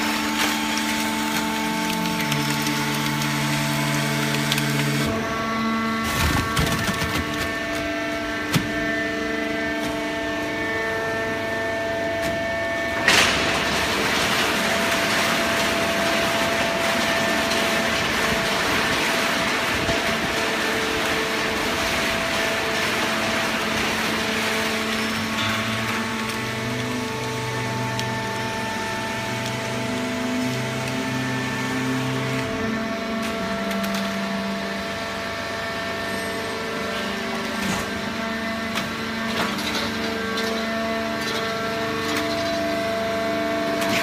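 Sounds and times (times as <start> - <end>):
baling press machine hum: 0.0 - 44.0.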